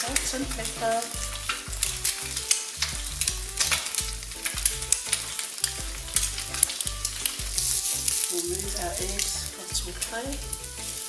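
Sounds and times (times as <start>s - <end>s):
eggs sizzling in frying pan: 0.0s - 11.0s
sharp crackling pops: 0.0s - 11.0s.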